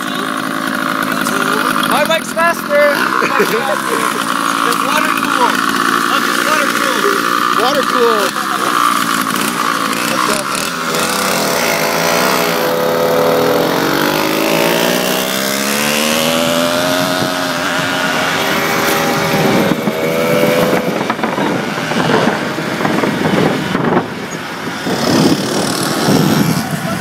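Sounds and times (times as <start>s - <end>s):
small motorbike engine running: 0.0s - 27.0s.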